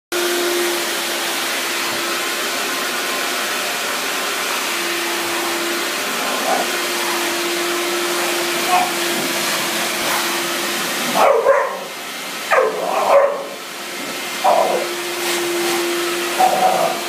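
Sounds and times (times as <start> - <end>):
vacuum cleaner running: 0.1 - 17.0.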